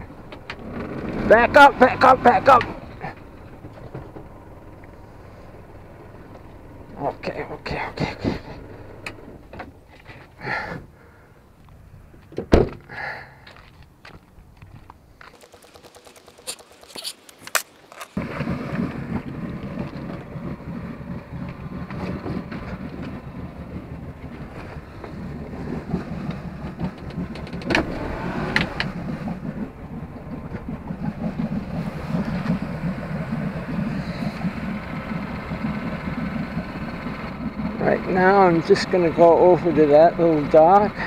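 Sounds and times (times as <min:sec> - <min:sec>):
outboard motor idling: 0:00.0 - 0:11.7, 0:15.2 - 0:41.0.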